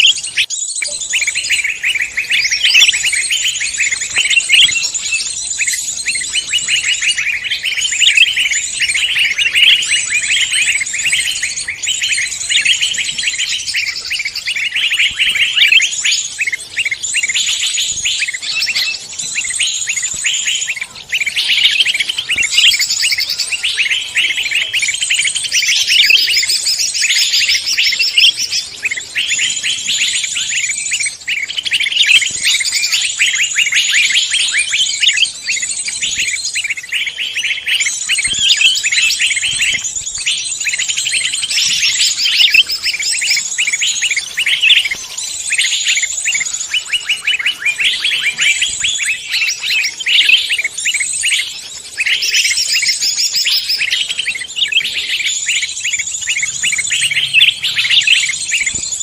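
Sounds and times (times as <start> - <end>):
chorus of songbirds singing: 0.0 - 59.0.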